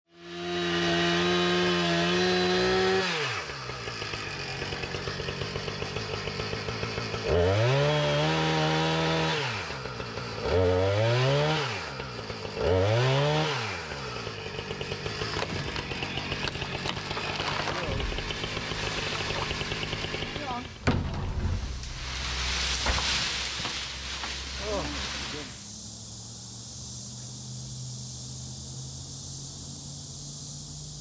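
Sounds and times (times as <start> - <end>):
chainsaw revving and idling: 0.1 - 20.9, 21.8 - 31.0.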